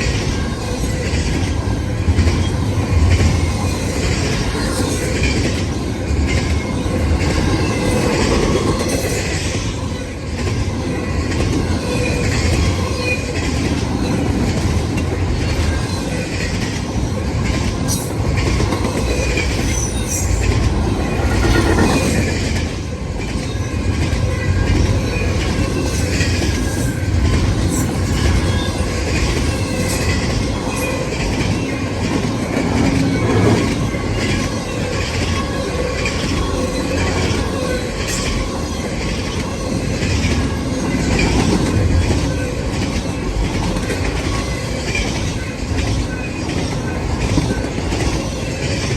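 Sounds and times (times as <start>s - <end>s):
freight train rumbling: 0.0s - 48.9s.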